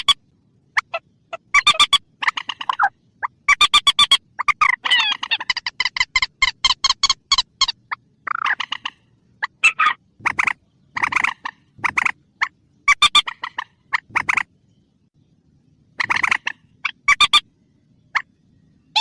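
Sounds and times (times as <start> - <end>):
rail bird harsh repeated calls: 0.0 - 14.6, 15.9 - 19.0.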